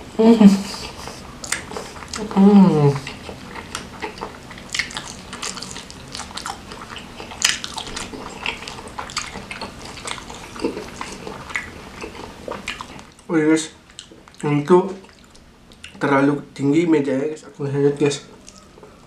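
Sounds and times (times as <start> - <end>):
wet chewing: 0.5 - 16.1, 18.2 - 19.0.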